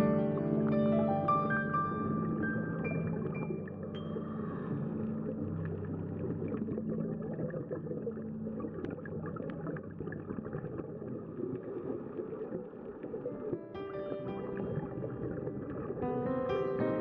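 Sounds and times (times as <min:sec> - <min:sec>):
boat engine drone underwater: 0:00.0 - 0:16.3
fine underwater crackling: 0:00.0 - 0:17.0.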